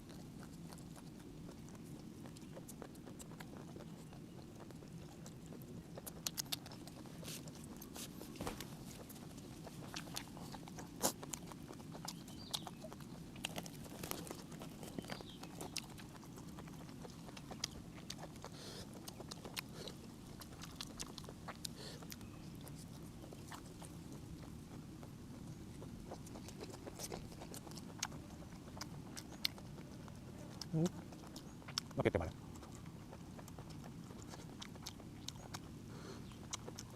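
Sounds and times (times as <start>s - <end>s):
low background noise: 0.0s - 36.9s
person chewing and lip smacking: 0.0s - 36.9s.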